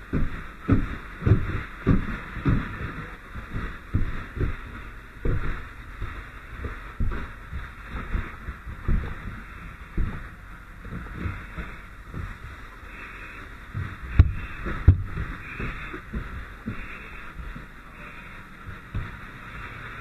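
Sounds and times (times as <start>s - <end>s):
gear and camera bumping: 0.0s - 20.0s
steady hiss: 0.0s - 20.0s.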